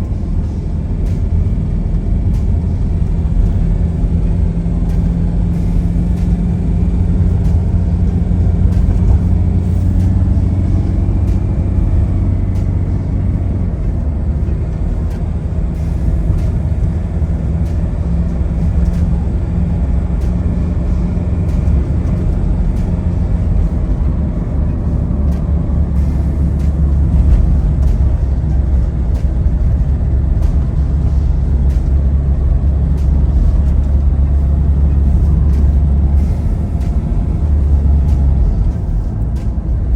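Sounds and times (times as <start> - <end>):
car engine humming: 0.0 - 39.9
road noise: 0.0 - 39.9.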